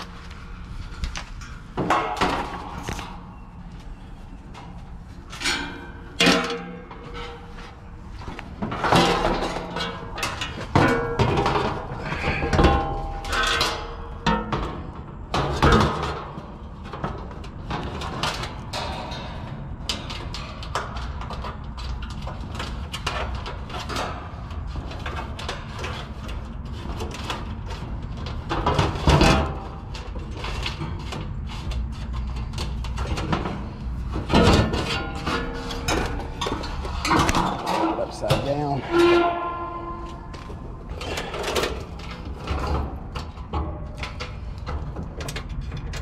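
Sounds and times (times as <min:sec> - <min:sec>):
metal grille clanking and rattling: 0:00.9 - 0:46.0.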